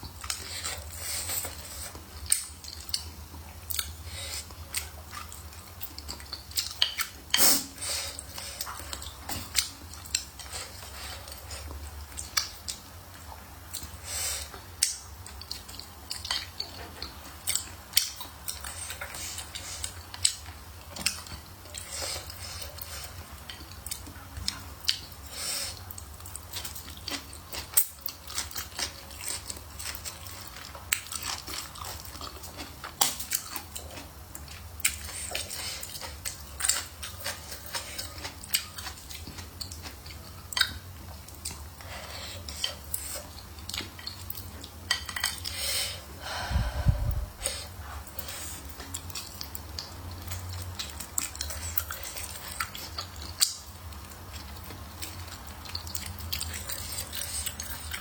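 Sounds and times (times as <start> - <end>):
chewing: 0.1 - 58.0.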